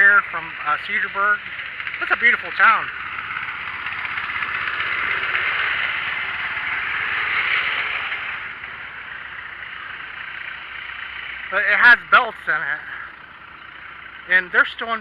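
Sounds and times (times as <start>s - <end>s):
engine running with rattling clatter: 0.0s - 15.0s.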